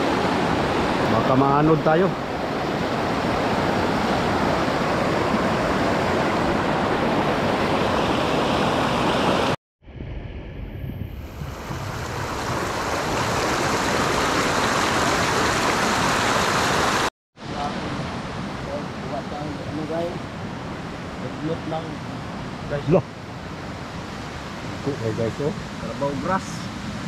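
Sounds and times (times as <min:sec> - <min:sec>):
rushing river water: 0:00.0 - 0:09.6, 0:11.5 - 0:27.0.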